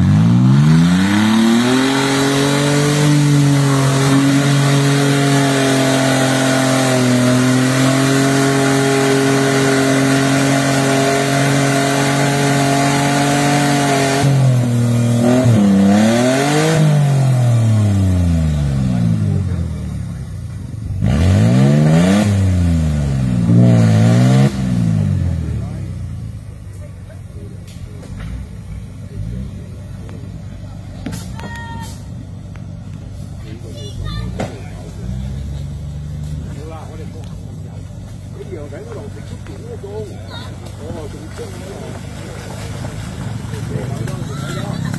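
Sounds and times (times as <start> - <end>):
off-road engine revving hard: 0.0 - 32.2, 33.0 - 44.9.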